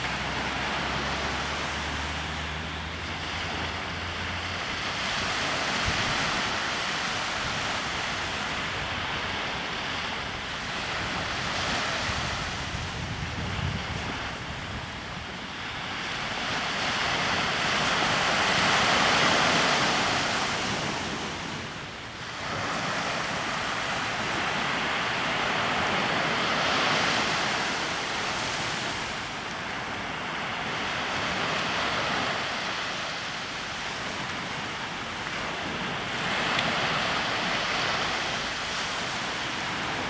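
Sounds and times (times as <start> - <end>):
sea waves breaking on shore: 0.0 - 40.0.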